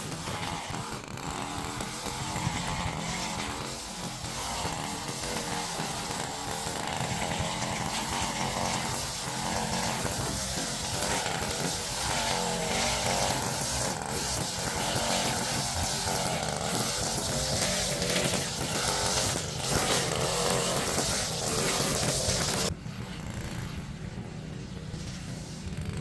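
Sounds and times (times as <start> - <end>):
small gas engine running: 0.0 - 26.0.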